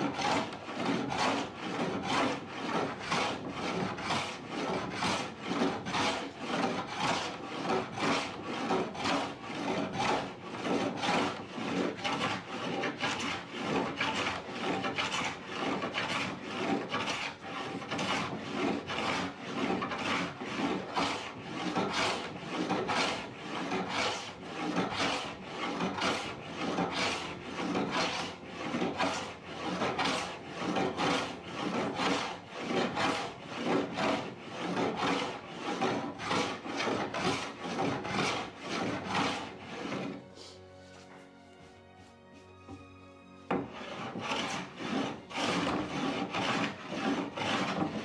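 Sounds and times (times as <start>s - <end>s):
tool rasping across wood: 0.0s - 48.0s.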